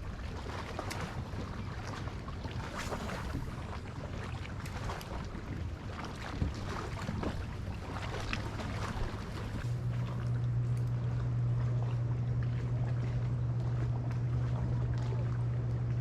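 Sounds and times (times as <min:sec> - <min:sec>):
small waves lapping: 0:00.0 - 0:16.0
steady low rumble: 0:00.0 - 0:16.0.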